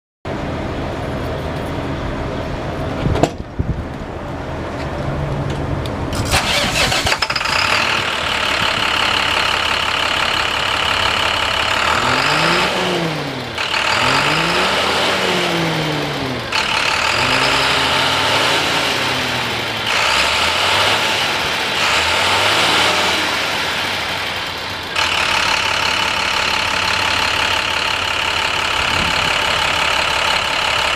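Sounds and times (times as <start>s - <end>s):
truck diesel engine cranking and idling: 0.3s - 30.9s
engine revving: 6.1s - 30.9s.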